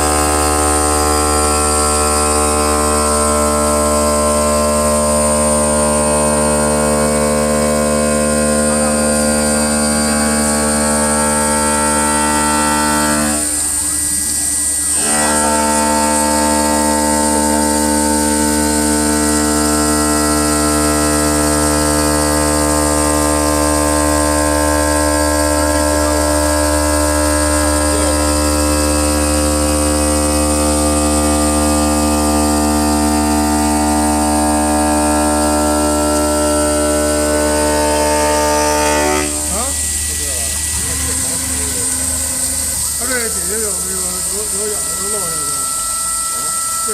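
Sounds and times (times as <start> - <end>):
stone cutting machine humming: 0.0 - 46.9.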